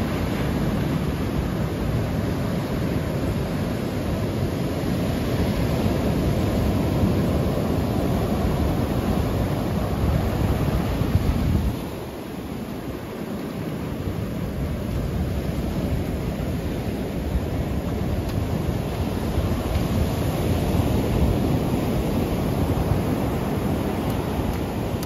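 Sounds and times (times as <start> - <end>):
surf breaking on beach: 0.0 - 25.0
wind rumbling on microphone: 0.0 - 25.0.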